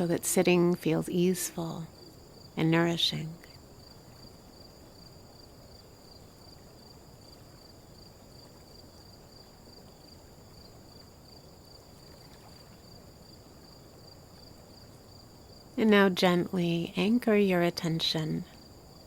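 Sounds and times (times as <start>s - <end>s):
insects trilling: 0.0s - 19.0s
low background hiss: 0.0s - 19.0s.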